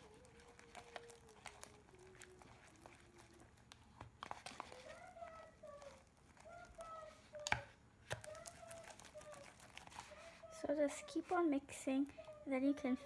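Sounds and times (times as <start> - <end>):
slime squelching: 0.0 - 13.0.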